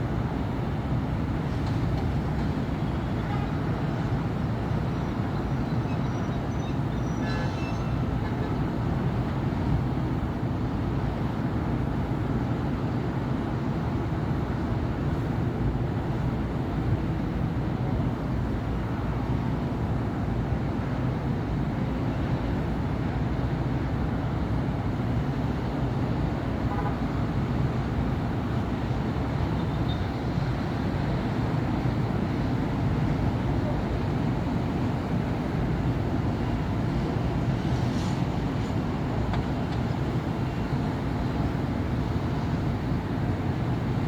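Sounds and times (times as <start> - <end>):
city street traffic: 0.0 - 44.0.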